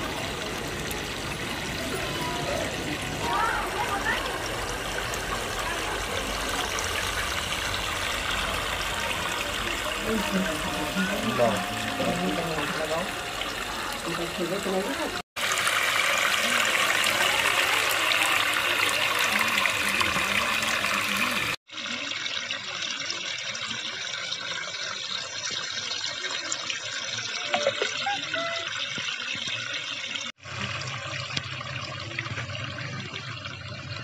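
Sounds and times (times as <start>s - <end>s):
fountain water splashing: 0.0s - 34.0s.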